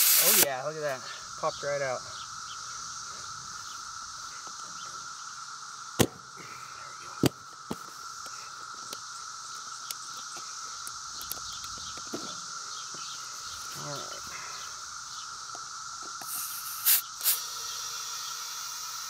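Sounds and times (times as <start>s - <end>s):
high insect hum: 0.0s - 19.0s.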